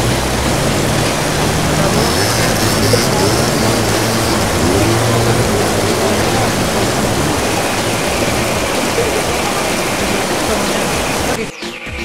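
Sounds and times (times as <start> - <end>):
scooter engine running: 0.0 - 11.4
loud rushing noise: 0.0 - 11.5.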